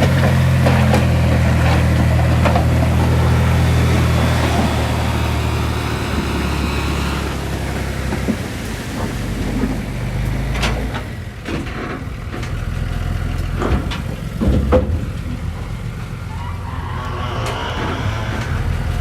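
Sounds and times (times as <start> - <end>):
diesel machinery rumbling: 0.0 - 19.0.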